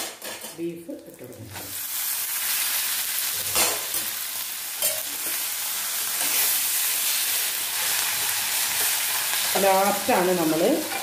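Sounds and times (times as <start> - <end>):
food sizzling in wok: 1.1 - 11.0.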